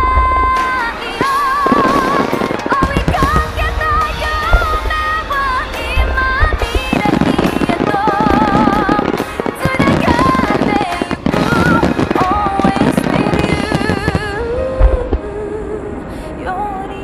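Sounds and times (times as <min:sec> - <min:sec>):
fireworks bursting and crackling: 0:00.0 - 0:15.6
music playing: 0:00.0 - 0:17.0.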